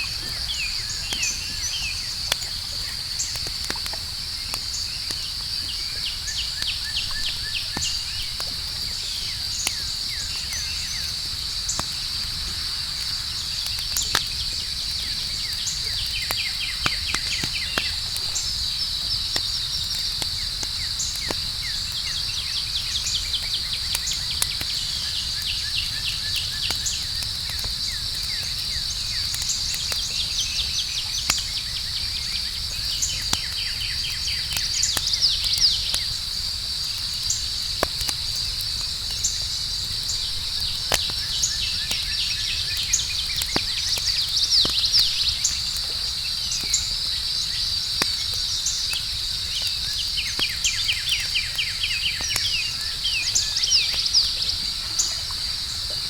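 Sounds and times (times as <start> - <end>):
campfire crackling: 0.0 - 56.0
crickets chirring: 0.0 - 56.0.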